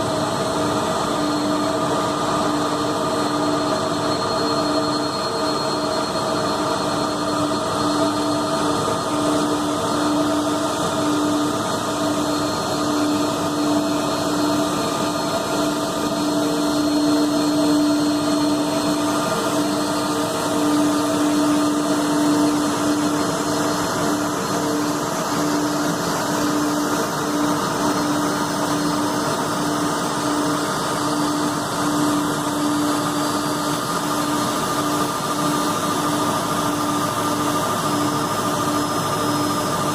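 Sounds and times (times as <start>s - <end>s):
jet engine hum with whine: 0.0s - 39.9s.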